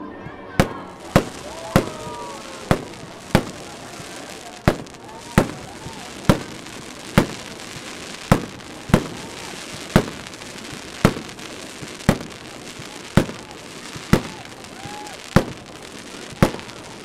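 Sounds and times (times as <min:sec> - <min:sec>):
fireworks bursting: 0:00.6 - 0:17.0.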